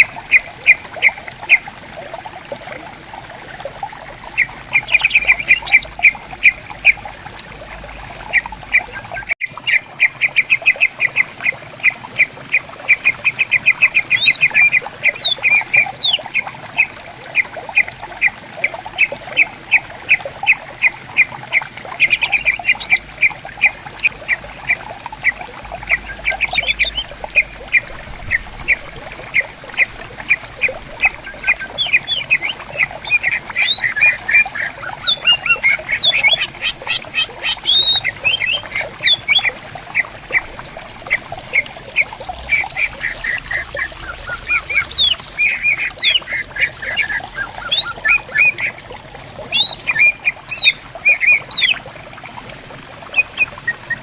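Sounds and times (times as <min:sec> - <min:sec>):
faint babbling stream: 0:00.0 - 0:54.0
birds calling sharp repeated notes: 0:04.0 - 0:07.2, 0:08.2 - 0:51.8.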